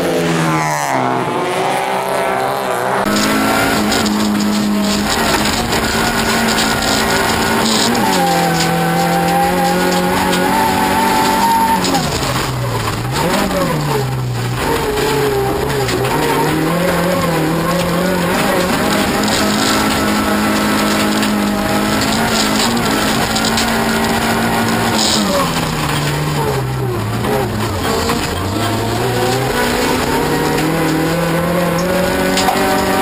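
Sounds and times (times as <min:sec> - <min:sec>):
race car engine from inside cabin: 0:00.0 - 0:33.0.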